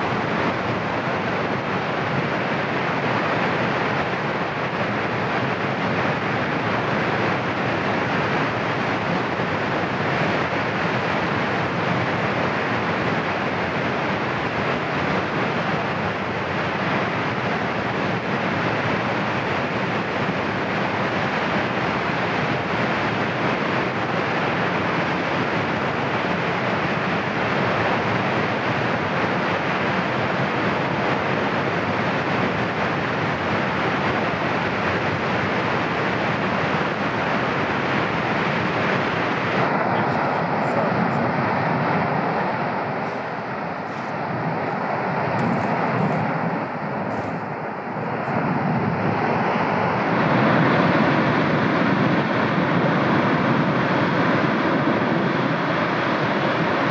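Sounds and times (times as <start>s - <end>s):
volcano eruption rushing noise: 0.0s - 56.9s.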